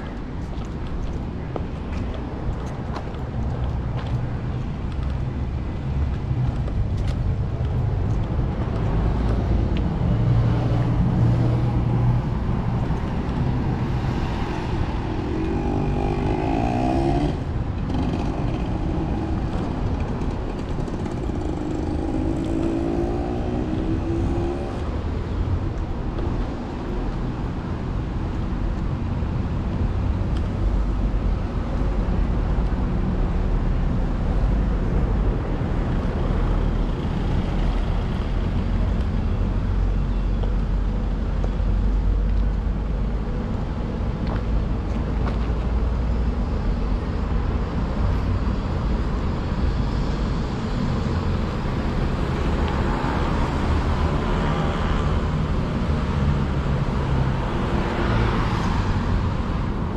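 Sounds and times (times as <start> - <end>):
cars passing on busy street: 0.0 - 59.9
louder vehicles passing: 0.0 - 59.9.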